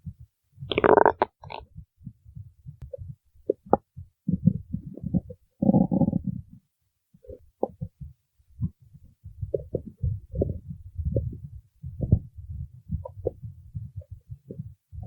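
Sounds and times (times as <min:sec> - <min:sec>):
stomach growling and gurgling: 0:00.6 - 0:01.8, 0:02.8 - 0:06.6, 0:07.2 - 0:15.0.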